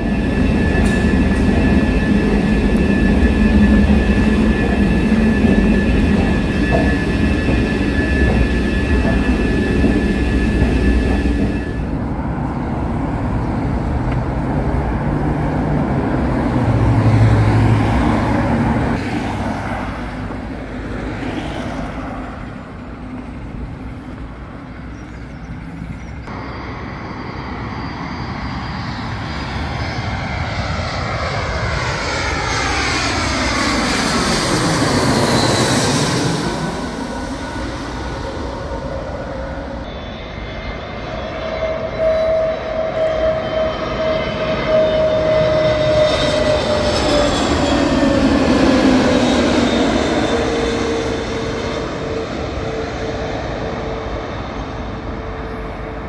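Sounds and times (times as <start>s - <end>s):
aircraft passing close: 0.0s - 56.0s
jet engine noise: 0.0s - 56.0s.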